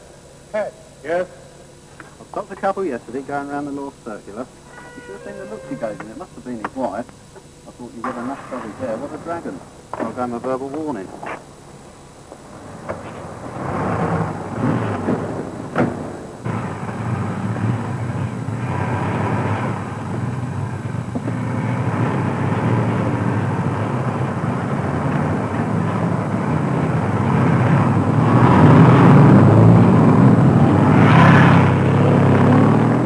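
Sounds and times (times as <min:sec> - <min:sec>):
road noise: 0:02.3 - 0:33.0
car engine running: 0:05.7 - 0:33.0.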